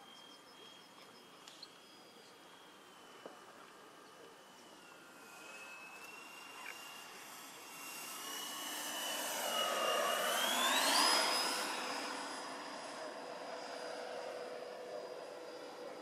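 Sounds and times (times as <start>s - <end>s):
electric ducted fans whining: 0.0s - 16.0s.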